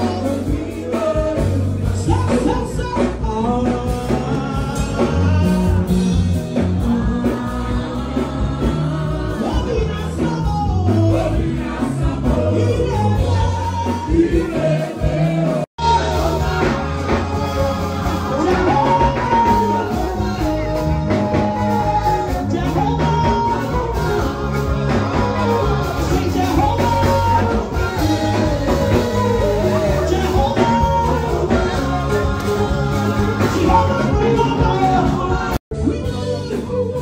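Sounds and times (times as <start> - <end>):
music with singing: 0.0 - 37.0.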